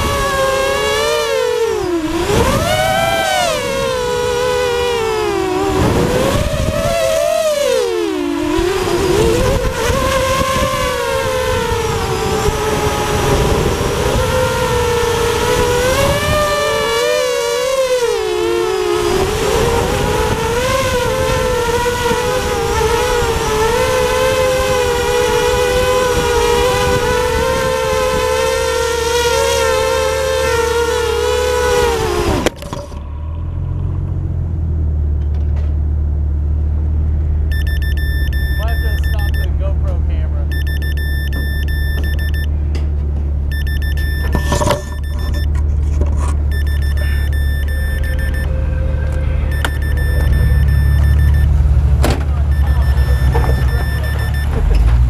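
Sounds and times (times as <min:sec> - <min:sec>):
quadcopter motors whining: 0:00.0 - 0:33.8, 0:37.5 - 0:42.6, 0:43.5 - 0:55.0.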